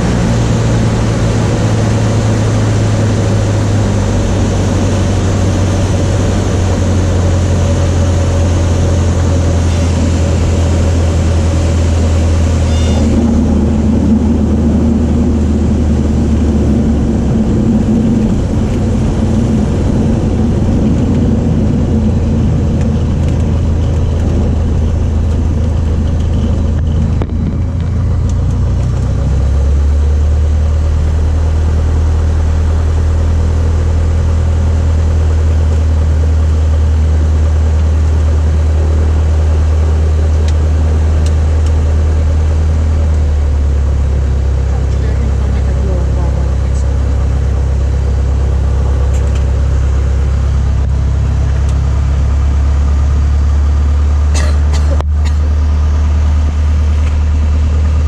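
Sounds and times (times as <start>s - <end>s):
light aircraft engine running: 0.0s - 58.0s.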